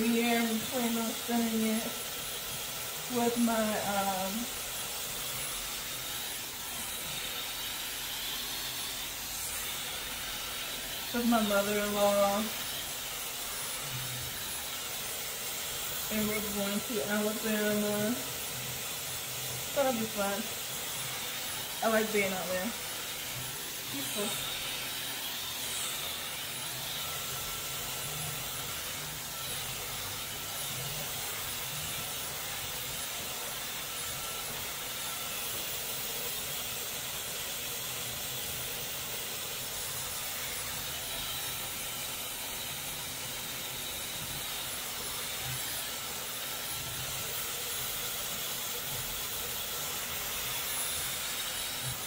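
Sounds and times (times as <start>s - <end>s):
hair dryer blowing: 0.0s - 52.0s.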